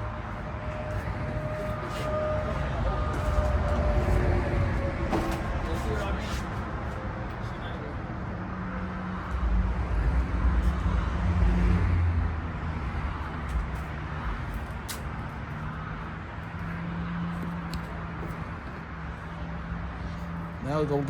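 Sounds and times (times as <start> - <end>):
low vehicle-like rumble: 0.0 - 20.6.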